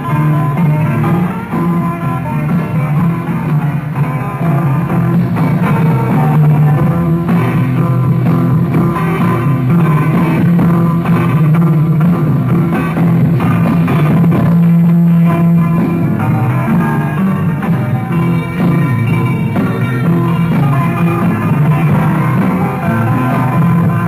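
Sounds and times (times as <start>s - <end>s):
bass guitar: 0.0s - 24.0s
drums: 0.0s - 24.0s
electric guitar: 0.0s - 24.0s.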